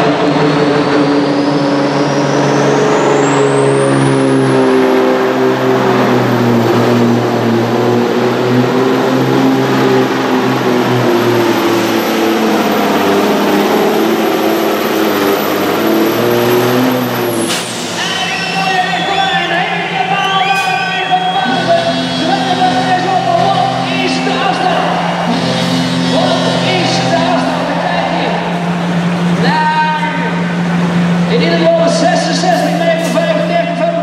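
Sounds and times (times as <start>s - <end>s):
diesel engine at full throttle: 0.0s - 34.0s
high whine: 0.0s - 34.0s.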